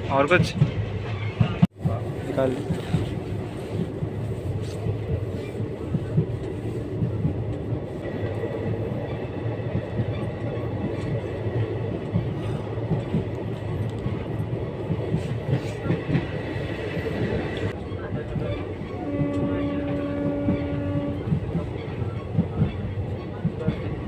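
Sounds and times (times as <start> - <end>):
train rumble from inside coach: 0.0 - 24.0.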